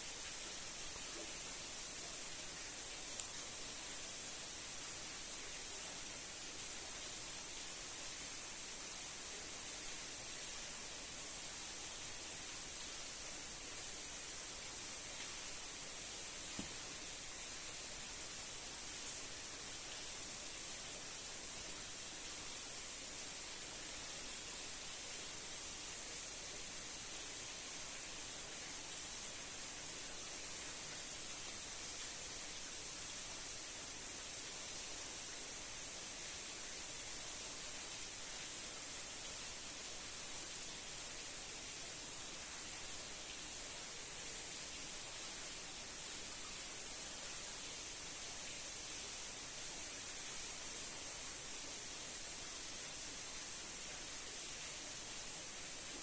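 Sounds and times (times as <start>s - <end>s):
high-pitched hiss: 0.0s - 56.0s.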